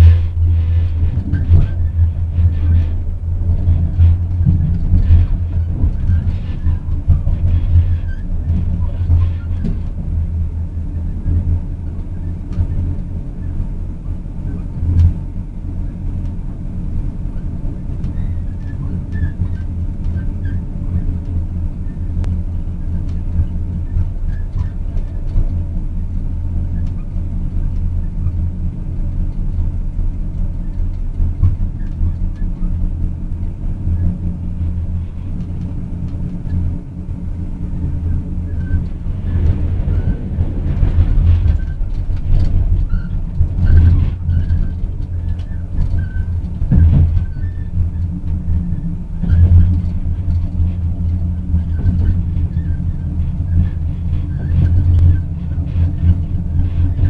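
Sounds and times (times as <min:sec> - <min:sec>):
train rumbling on track: 0:00.0 - 0:57.0.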